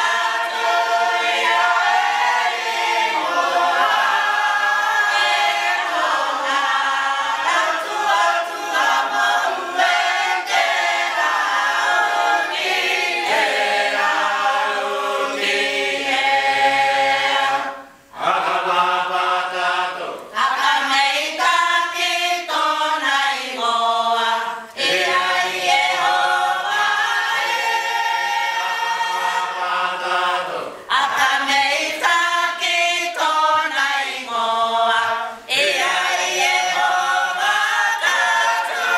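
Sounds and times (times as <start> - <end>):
women's choir singing a hymn: 0.0 - 38.9.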